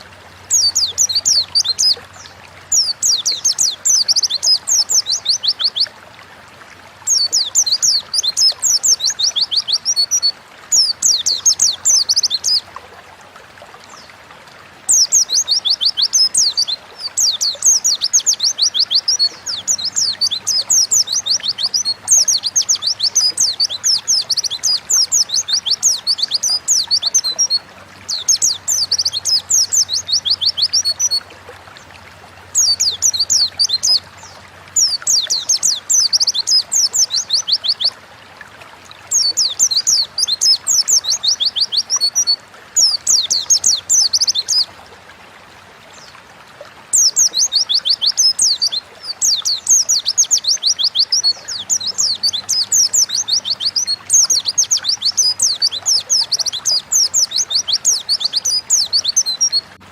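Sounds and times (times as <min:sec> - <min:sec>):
bird twittering song: 0:00.0 - 0:06.0, 0:07.0 - 0:12.7, 0:14.9 - 0:38.0, 0:39.0 - 0:44.7, 0:46.9 - 0:59.8.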